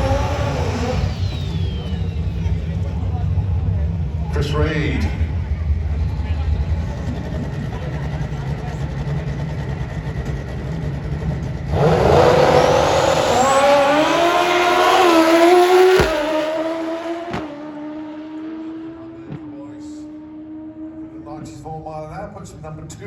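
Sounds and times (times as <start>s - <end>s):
motorcycle engine accelerating: 0.0s - 4.3s, 5.5s - 21.9s.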